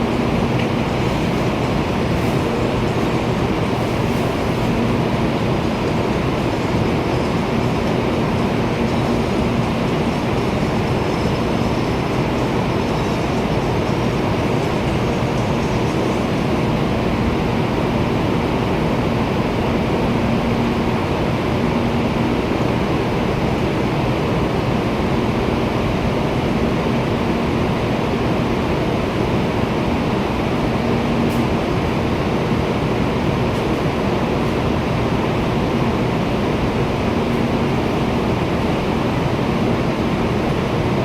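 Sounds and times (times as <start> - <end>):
standing train rushing noise: 0.0 - 41.0.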